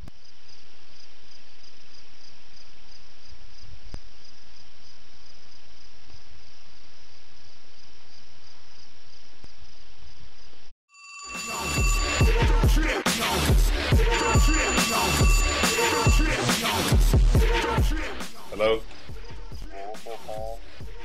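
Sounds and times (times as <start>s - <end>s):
crickets chirping: 0.0s - 12.6s, 13.8s - 21.0s.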